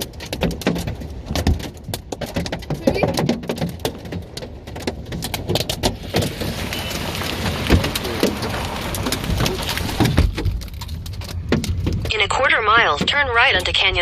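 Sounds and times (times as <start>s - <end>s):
hailstones hitting a car: 0.0s - 14.0s.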